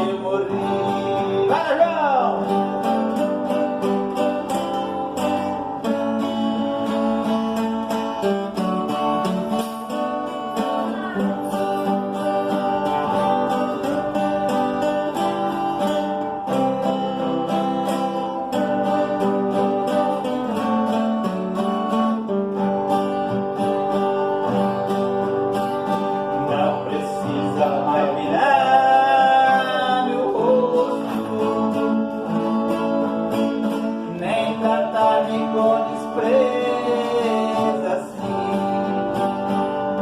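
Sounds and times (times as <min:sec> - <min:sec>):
acoustic guitars playing: 0:00.0 - 0:40.0.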